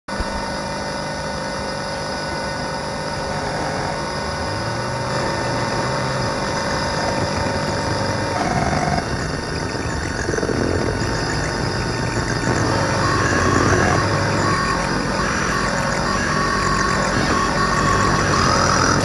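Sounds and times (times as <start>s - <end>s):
noisy electronic synth drone: 0.1s - 19.0s.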